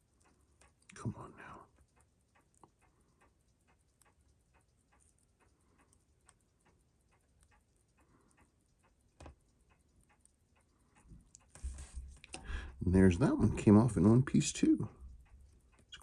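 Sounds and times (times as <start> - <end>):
faint steady ticking: 0.0 - 16.0.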